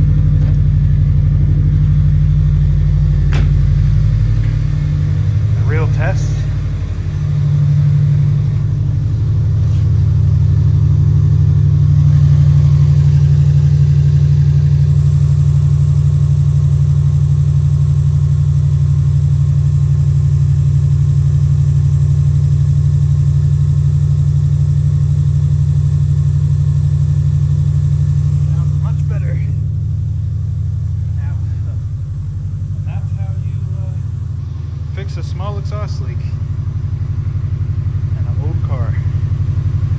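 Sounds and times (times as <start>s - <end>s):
car engine and exhaust running: 0.0s - 39.9s.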